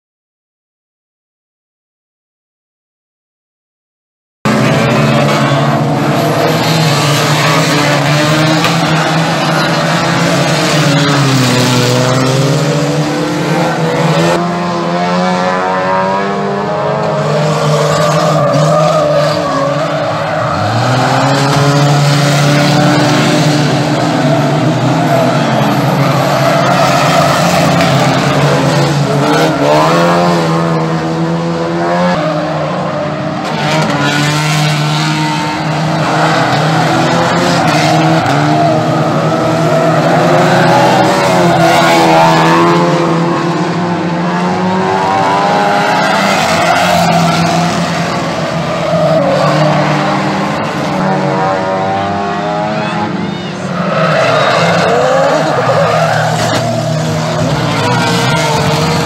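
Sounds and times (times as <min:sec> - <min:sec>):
racing car engines revving: 0:04.5 - 0:59.0.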